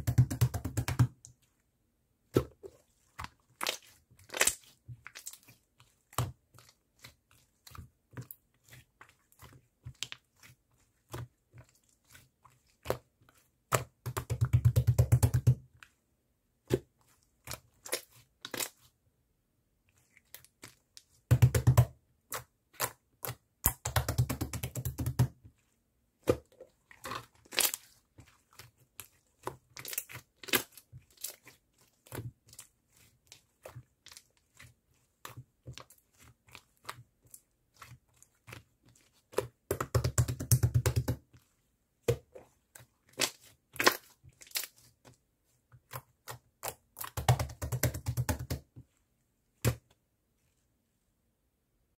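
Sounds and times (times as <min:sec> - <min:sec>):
slime squishing with sticky pops: 0:02.2 - 0:16.0, 0:16.6 - 0:18.9, 0:19.9 - 0:49.0.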